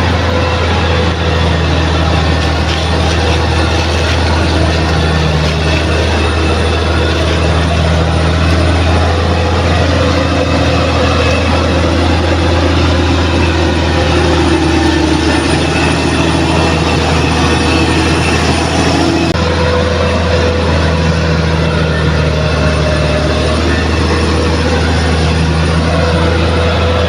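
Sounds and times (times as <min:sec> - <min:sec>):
bulldozer diesel engine under load: 0:00.0 - 0:27.0
clattering mechanical noise: 0:00.0 - 0:27.0.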